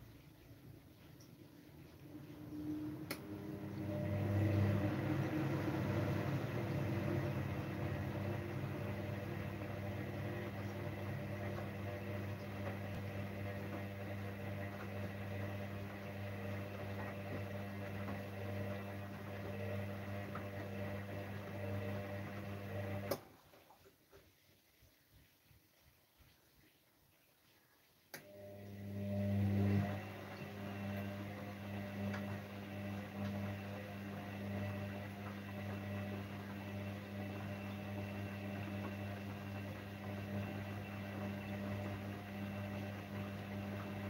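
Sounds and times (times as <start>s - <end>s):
washing machine motor hum: 0.0s - 23.8s, 28.1s - 44.0s.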